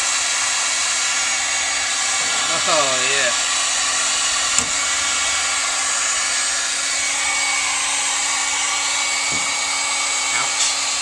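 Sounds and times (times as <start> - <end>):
heat gun fan humming: 0.0 - 11.0.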